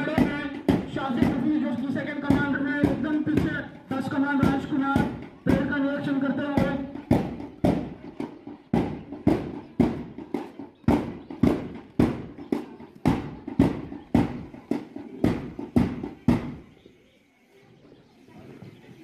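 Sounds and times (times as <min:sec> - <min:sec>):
drum beating marching beat: 0:00.0 - 0:16.8.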